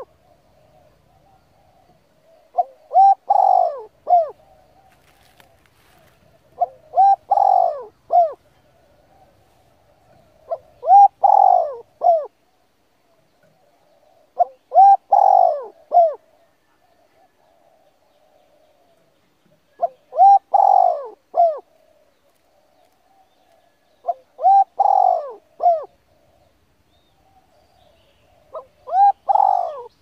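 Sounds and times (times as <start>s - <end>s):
bird cooing: 0.0s - 12.5s, 13.4s - 30.0s.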